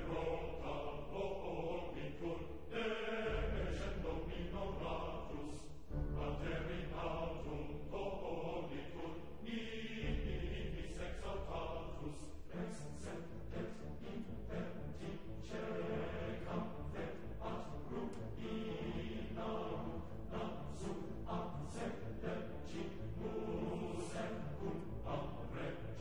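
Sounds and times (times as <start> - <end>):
choir-like chanting music: 0.0 - 26.0.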